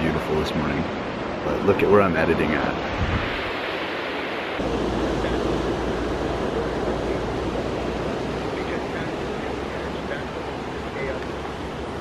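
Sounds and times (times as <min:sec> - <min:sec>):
surf washing over rocks: 0:00.0 - 0:12.0
wind rumbling on microphone: 0:00.0 - 0:12.0.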